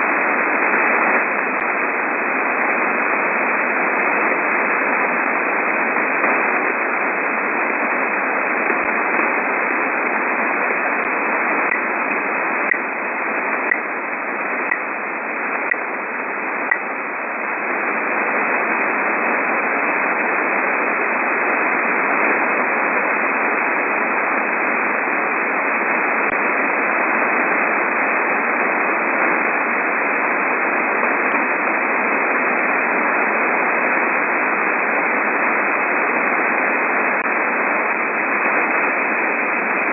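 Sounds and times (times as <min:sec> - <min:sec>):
radio band hiss: 0:00.0 - 0:39.9.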